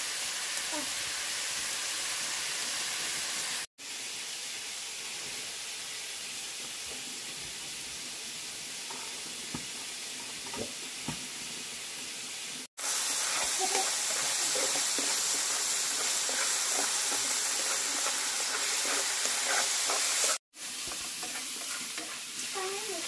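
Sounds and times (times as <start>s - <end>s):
food sizzling: 0.0s - 23.0s.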